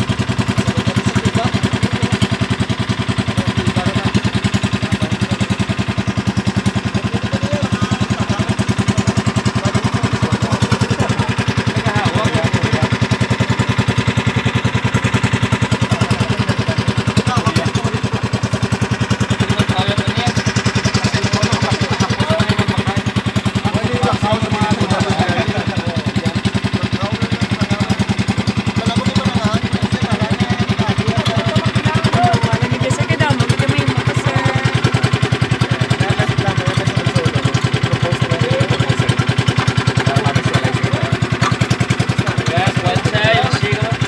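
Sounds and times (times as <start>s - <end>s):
motorboat engine putt-putt: 0.0s - 44.0s.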